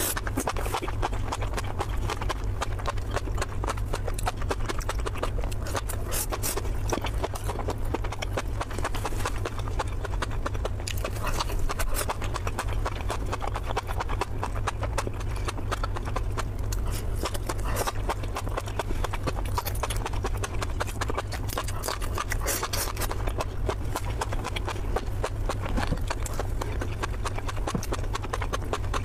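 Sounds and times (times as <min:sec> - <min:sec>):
wet chewing and smacking: 0:00.0 - 0:29.0.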